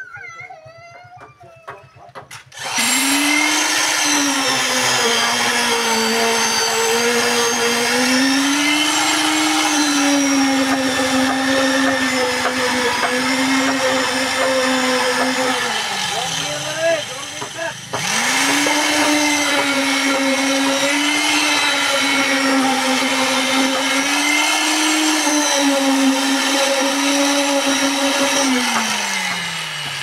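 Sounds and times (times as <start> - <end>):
concrete vibrator motor whine: 1.7 - 30.0.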